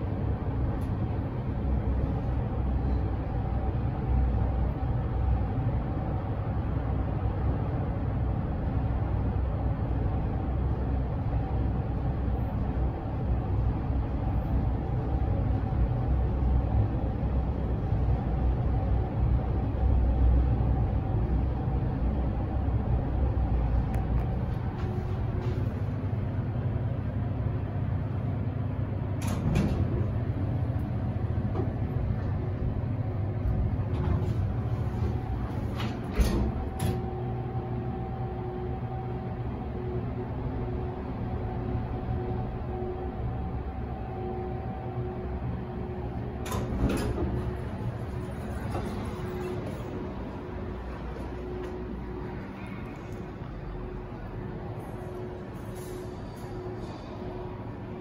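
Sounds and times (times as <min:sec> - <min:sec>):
faint hum: 0:00.0 - 0:58.0
lift car rumbling in shaft: 0:00.0 - 0:58.0.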